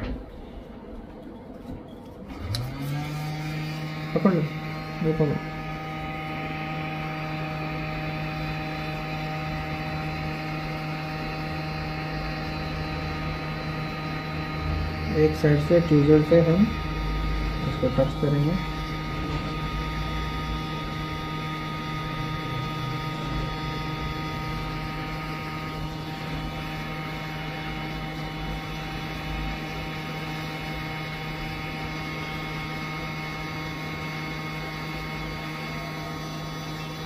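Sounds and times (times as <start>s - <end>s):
hot-air blower humming: 0.0s - 37.0s.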